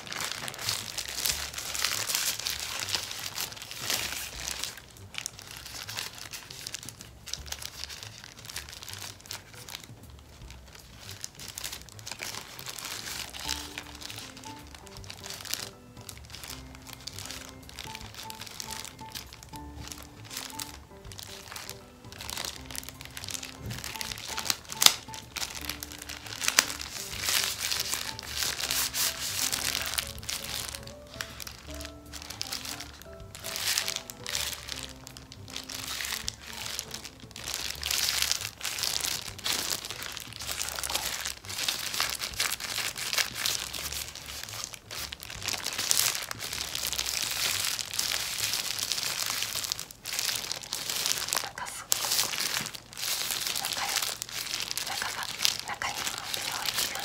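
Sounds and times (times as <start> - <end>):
plastic gloves crinkling: 0.0 - 57.0
quiet background music: 0.0 - 57.0.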